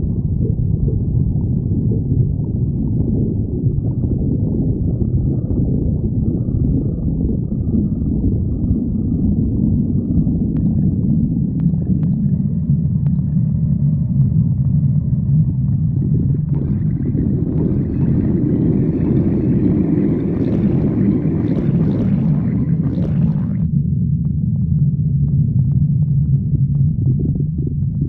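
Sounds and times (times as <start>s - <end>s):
stomach growling: 0.0s - 28.0s.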